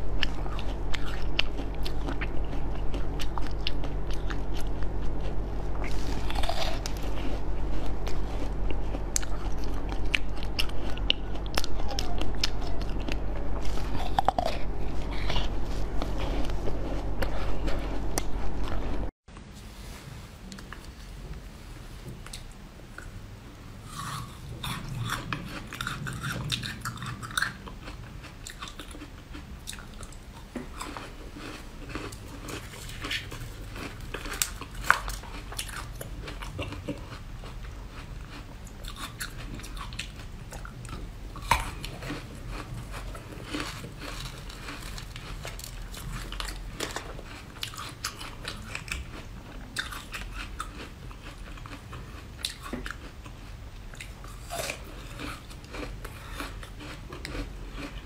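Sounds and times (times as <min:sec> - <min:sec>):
crunching frozen grapes: 0:00.0 - 0:19.1, 0:23.8 - 0:58.0.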